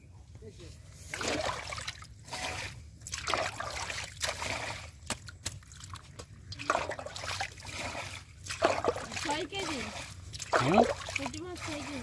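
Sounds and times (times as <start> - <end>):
muddy water splashing and trickling: 1.0 - 12.0.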